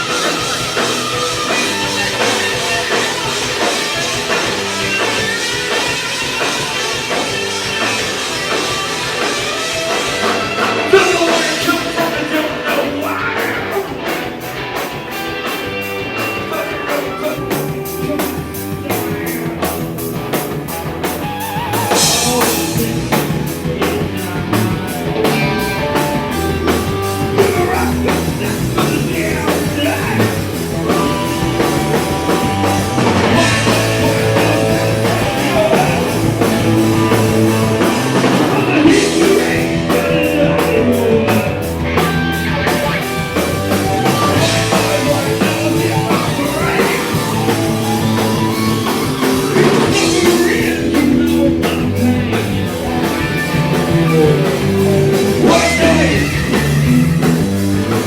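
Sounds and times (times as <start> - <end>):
bass guitar: 0.0 - 58.0
drum kit with cymbals: 0.0 - 58.0
electric guitar: 0.0 - 58.0.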